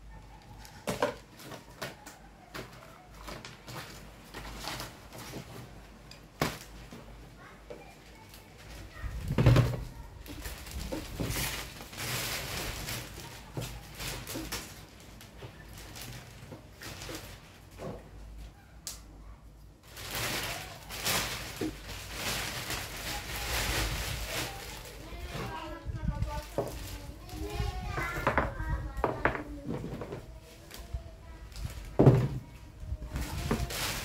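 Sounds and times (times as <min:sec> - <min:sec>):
plastic bag and paper rustling: 0:00.0 - 0:18.8, 0:19.8 - 0:34.0.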